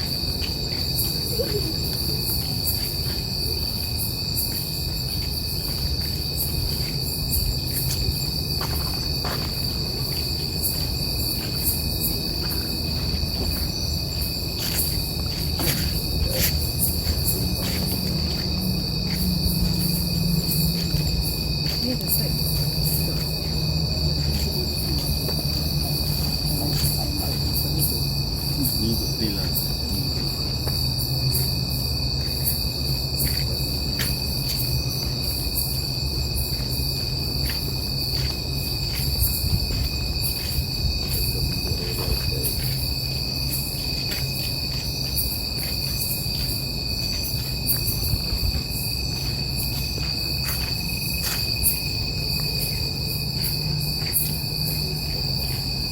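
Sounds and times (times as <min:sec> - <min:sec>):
crickets trilling: 0:00.0 - 0:55.9.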